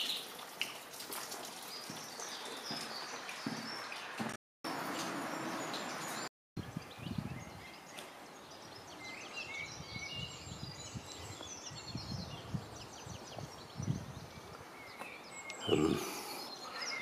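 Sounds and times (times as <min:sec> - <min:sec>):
songbirds chirping and whistling: 0:01.7 - 0:04.3, 0:05.3 - 0:17.0.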